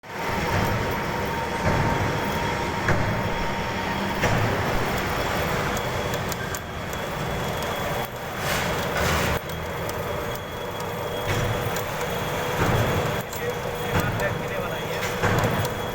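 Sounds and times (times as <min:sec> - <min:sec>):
machinery rumble and hiss: 0:00.0 - 0:15.9.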